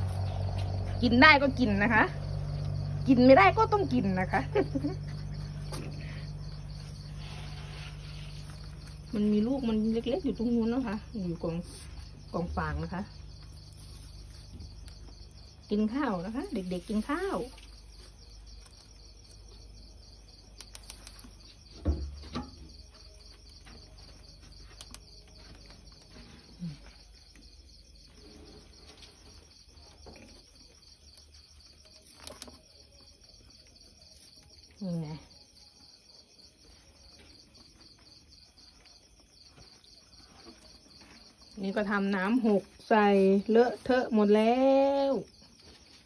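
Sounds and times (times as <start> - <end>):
crickets chirping: 0.0 - 46.0.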